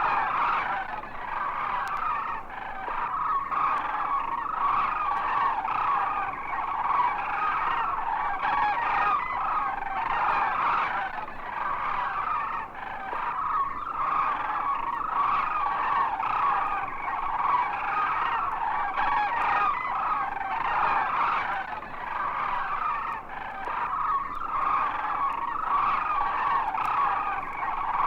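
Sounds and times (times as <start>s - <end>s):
vultures cawing and squawking: 0.0s - 28.0s.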